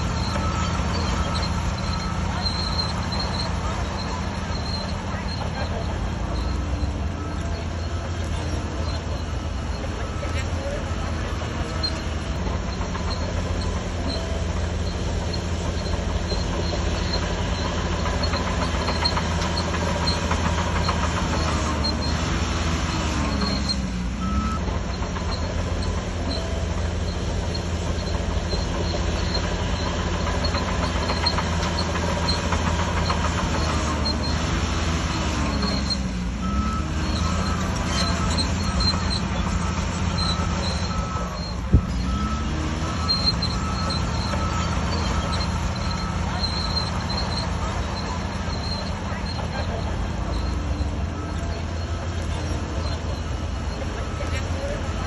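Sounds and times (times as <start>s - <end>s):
bulldozer diesel engine running: 0.0s - 55.0s
reversing alarm beeping: 0.0s - 55.0s
steel tracks clattering and squealing: 0.0s - 55.0s.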